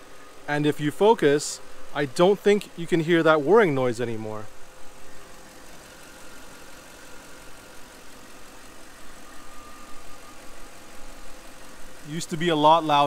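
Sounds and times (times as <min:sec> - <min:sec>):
car engine idling: 0:00.0 - 0:13.0
faint steady whine: 0:00.0 - 0:13.0.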